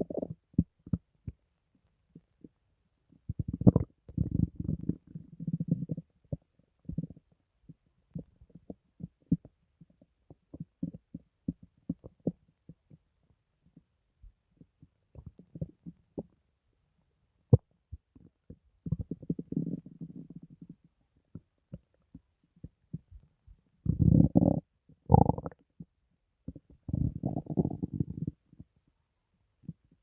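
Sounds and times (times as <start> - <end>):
stomach gurgling: 0.0 - 16.5, 17.4 - 28.8.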